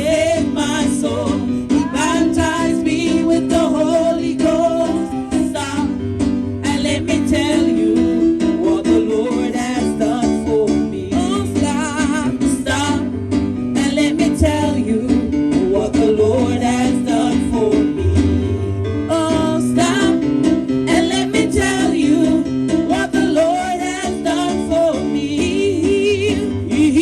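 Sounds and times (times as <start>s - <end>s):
gospel instrumental accompaniment: 0.0s - 27.0s.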